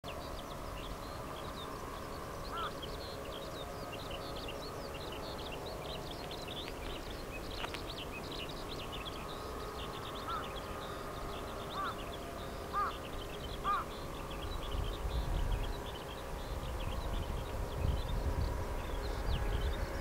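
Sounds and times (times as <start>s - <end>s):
background hum and rumble: 0.1s - 20.0s
small birds chirping: 0.1s - 20.0s.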